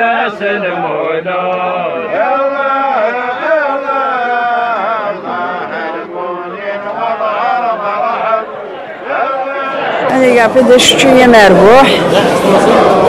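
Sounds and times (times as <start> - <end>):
men chanting: 0.0 - 13.0.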